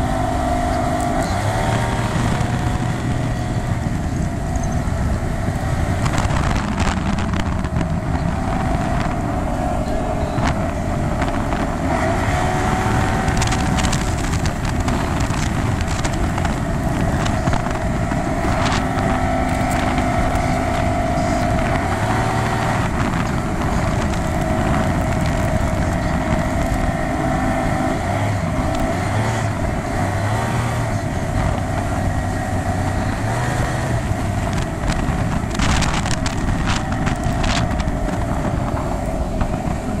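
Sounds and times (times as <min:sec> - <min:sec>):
outboard motor running: 0:00.0 - 0:40.0
wind and water rushing: 0:00.0 - 0:40.0.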